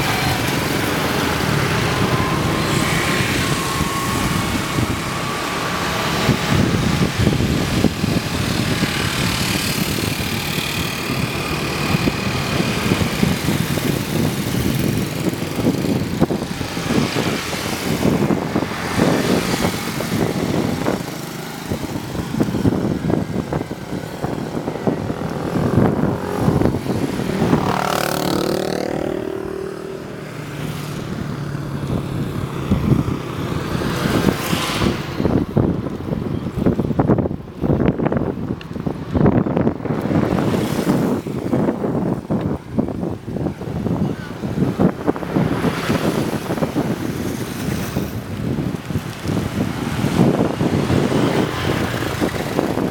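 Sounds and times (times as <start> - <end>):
vehicle passing close by: 0.0 - 35.9, 38.8 - 52.9
street traffic engines: 0.0 - 52.9.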